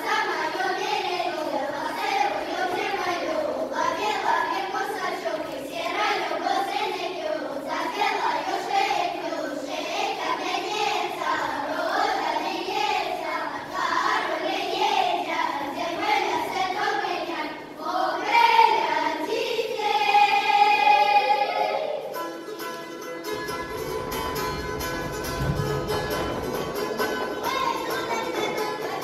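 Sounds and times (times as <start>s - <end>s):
children singing folk song: 0.0s - 29.0s.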